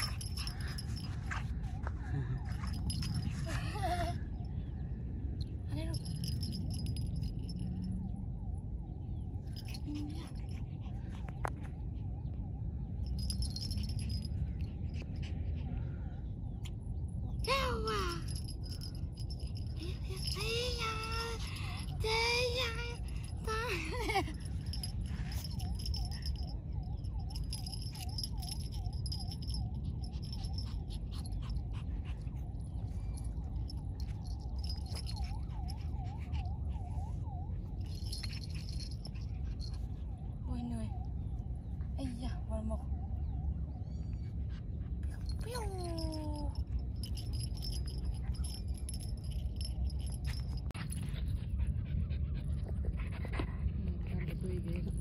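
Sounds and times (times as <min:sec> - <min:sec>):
collar bell jingling: 0:00.0 - 0:08.5, 0:09.4 - 0:11.6, 0:12.8 - 0:15.6, 0:16.9 - 0:41.8, 0:44.5 - 0:55.0.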